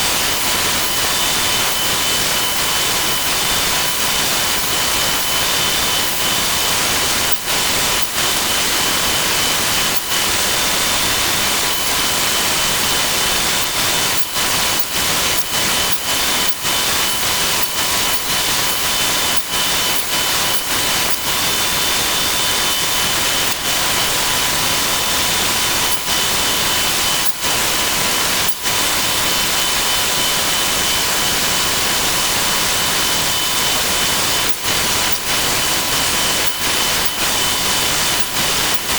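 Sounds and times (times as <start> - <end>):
sped-up power tool hiss and whine: 0.0 - 38.9.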